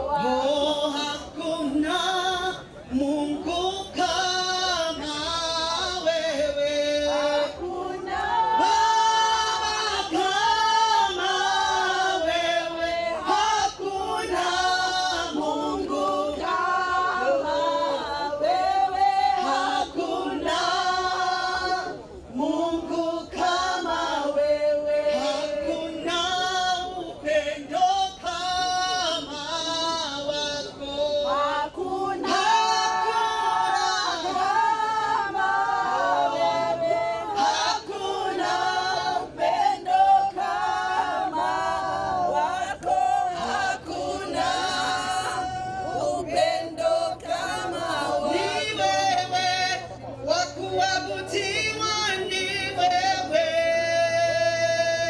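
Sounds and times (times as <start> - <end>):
group of people singing: 0.0 - 55.0.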